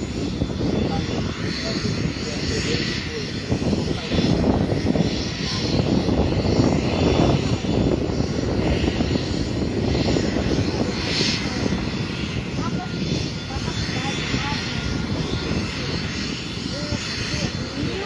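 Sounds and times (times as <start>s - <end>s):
aircraft engines rumbling: 0.0s - 18.0s.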